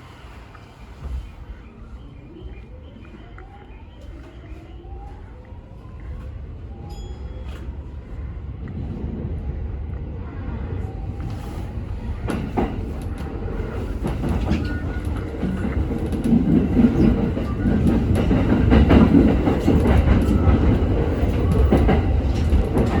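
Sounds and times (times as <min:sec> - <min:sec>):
electric train accelerating: 0:00.0 - 0:23.0.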